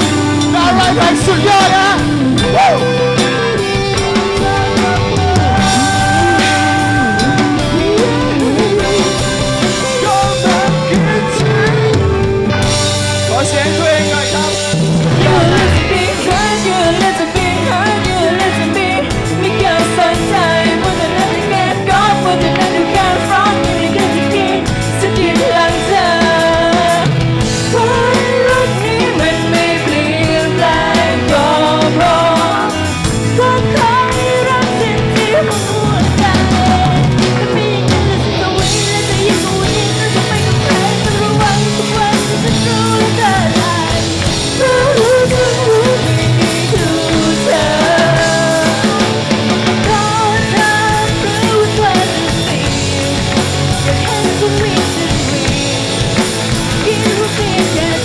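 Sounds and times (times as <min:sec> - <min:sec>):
person singing: 0:00.0 - 0:12.8, 0:15.0 - 0:58.0
live band playing loud music: 0:00.0 - 0:58.0.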